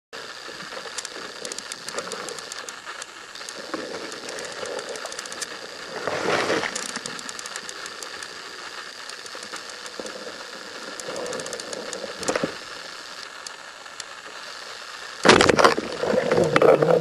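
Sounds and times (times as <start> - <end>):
underwater noise: 0.1 - 17.0
sharp crackling clicks: 0.2 - 17.0.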